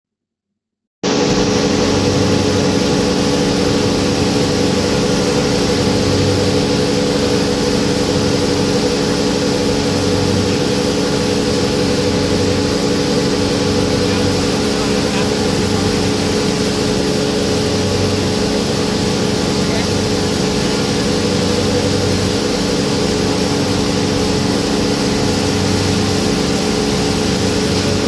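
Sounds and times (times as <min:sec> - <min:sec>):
rice milling machine drone: 0:01.0 - 0:28.0.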